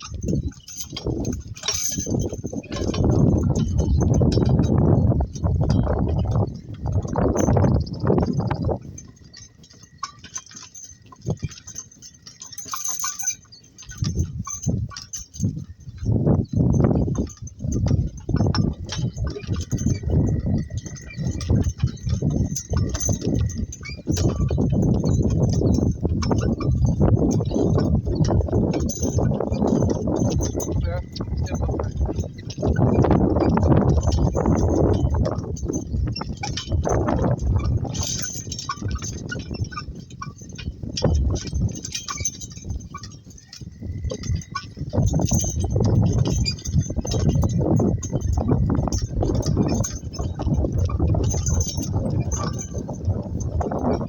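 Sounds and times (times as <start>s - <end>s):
cart rumbling and knocking: 0.0s - 54.0s
harness clinking and rattling: 0.0s - 54.0s
hooves clopping: 0.0s - 54.0s.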